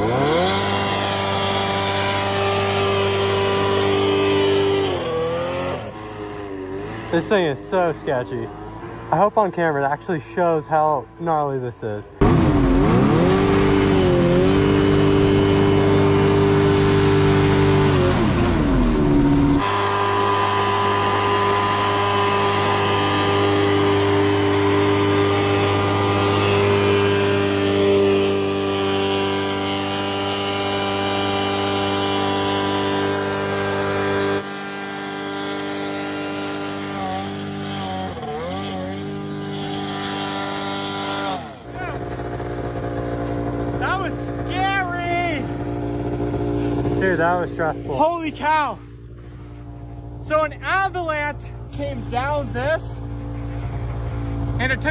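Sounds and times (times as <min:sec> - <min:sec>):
hovercraft engine revving: 0:00.0 - 0:54.9.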